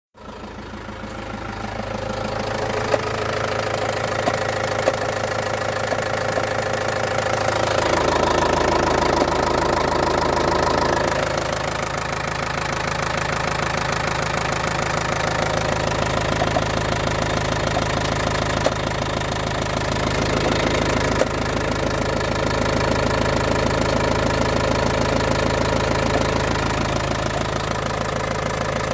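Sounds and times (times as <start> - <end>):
diesel engine running: 0.2 - 28.9.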